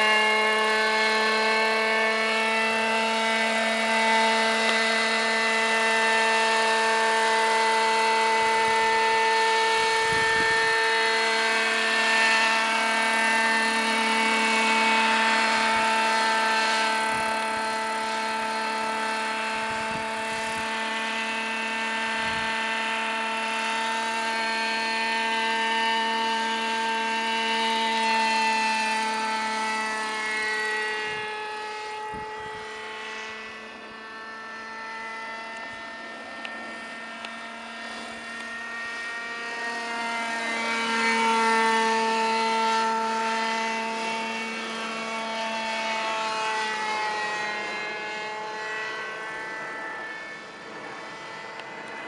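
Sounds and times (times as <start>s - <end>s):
model helicopter engine and rotors whining: 0.0s - 52.0s.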